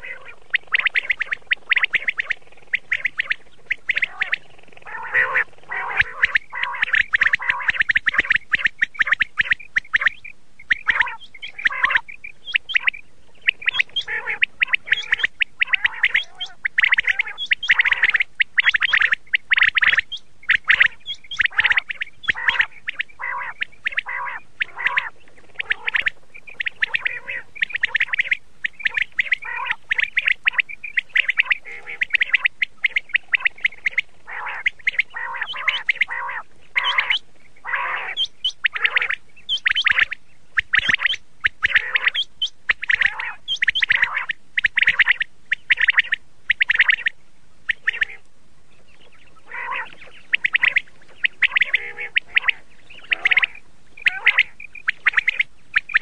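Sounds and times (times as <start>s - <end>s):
quail calling: 0.0s - 56.0s.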